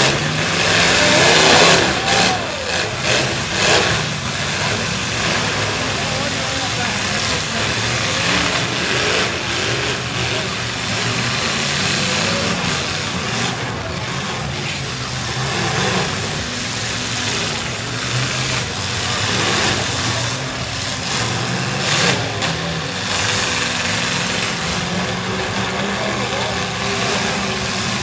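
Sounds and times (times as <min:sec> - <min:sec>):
crowd noise: 0:00.0 - 0:28.0
truck engines revving: 0:00.0 - 0:28.0.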